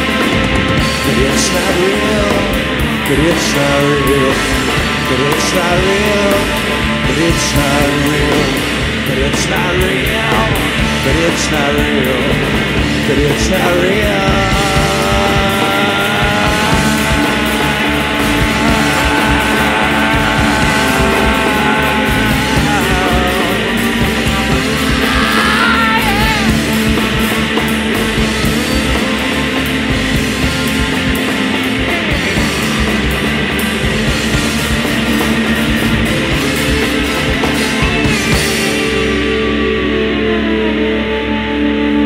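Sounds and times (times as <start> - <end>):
instrumental rock music: 0.0 - 42.0.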